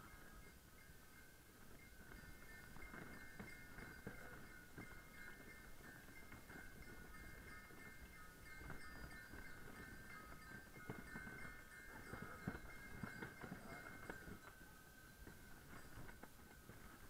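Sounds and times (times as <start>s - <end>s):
small harness bells ringing: 0.0s - 17.0s.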